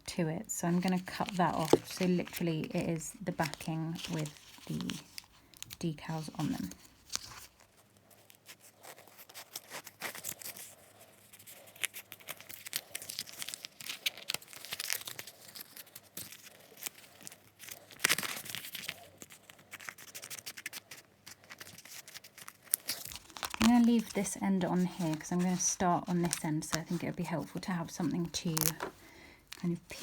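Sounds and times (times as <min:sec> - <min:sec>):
paper rustling and crinkling: 0:00.6 - 0:30.0.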